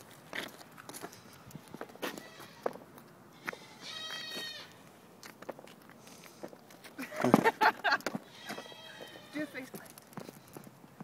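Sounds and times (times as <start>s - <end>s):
knocks and scuffs on pavement: 0.0s - 4.6s, 5.2s - 11.0s.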